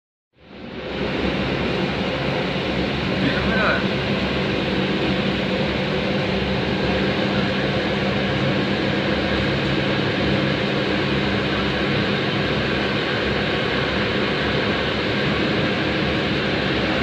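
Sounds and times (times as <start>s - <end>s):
low hum: 0.4s - 17.0s.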